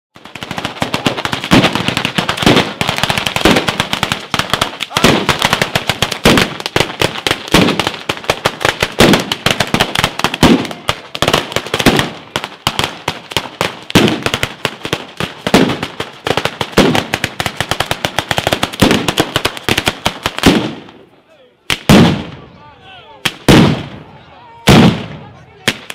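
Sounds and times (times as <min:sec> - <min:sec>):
heavier firecracker bangs: 0:00.2 - 0:21.0, 0:21.7 - 0:22.4, 0:23.2 - 0:25.9
firecrackers crackling: 0:00.2 - 0:25.9.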